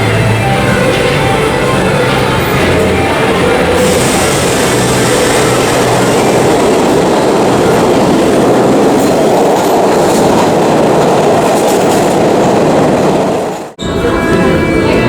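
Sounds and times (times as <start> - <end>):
subway train running: 0.0 - 15.0.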